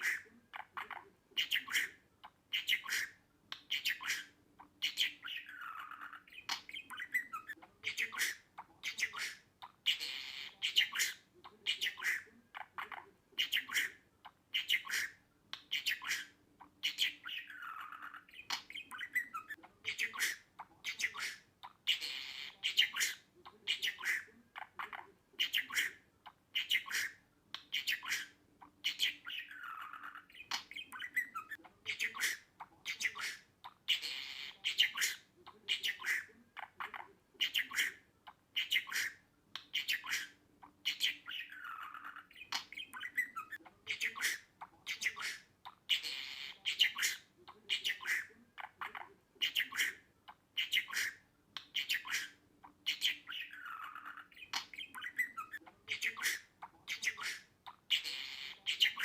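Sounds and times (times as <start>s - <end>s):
budgerigar chirping and squawking: 0.0s - 59.0s.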